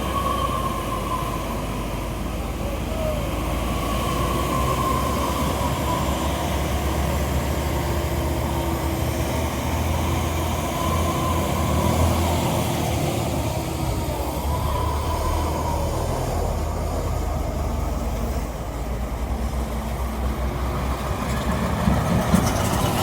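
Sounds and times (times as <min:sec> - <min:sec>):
heavy vehicle engine drone: 0:00.0 - 0:23.0.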